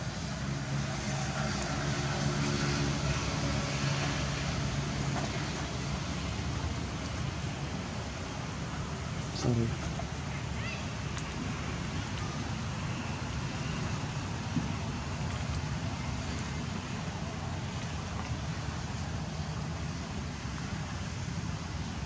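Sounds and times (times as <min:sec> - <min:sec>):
low rumbling background noise: 0:00.0 - 0:22.0.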